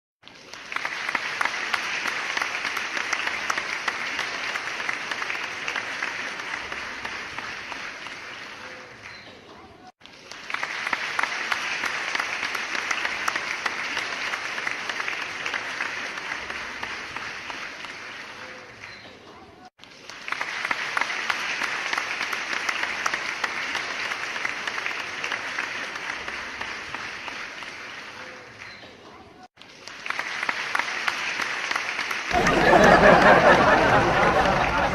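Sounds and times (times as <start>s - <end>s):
crowd applauding: 0.2s - 28.9s, 29.5s - 34.9s
audience clapping: 0.2s - 34.9s.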